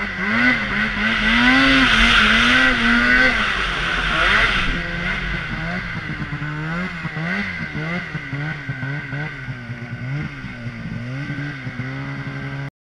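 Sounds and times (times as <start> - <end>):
steady high whine: 0.0 - 11.0
snowmobile engine revving: 0.0 - 12.7.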